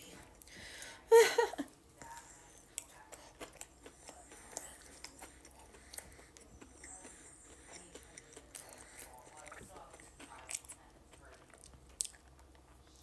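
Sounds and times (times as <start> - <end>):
quiet chewing: 0.0 - 13.0.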